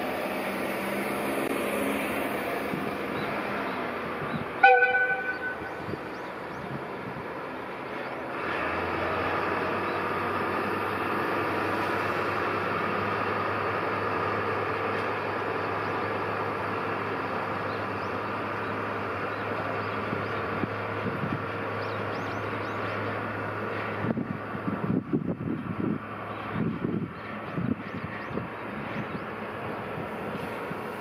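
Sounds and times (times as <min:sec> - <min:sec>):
electric locomotive running hum: 0:00.0 - 0:31.0.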